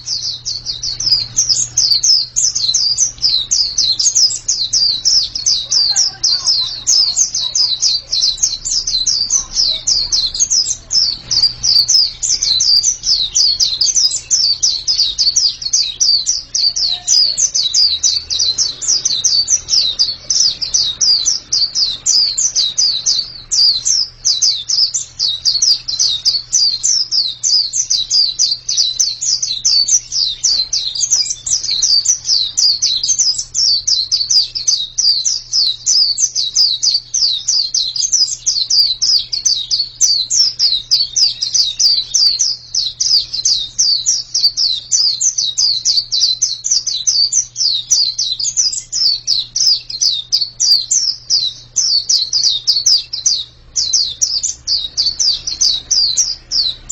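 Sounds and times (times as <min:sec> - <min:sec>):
bird twittering high notes: 0:00.0 - 0:56.9.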